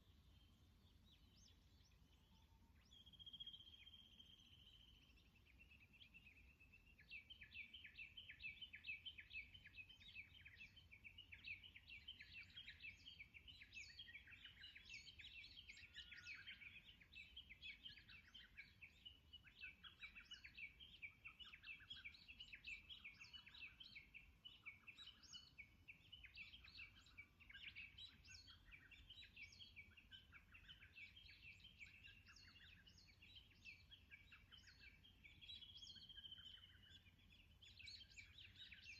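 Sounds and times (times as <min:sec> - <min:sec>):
birds chirping and singing: 0:00.1 - 0:38.9.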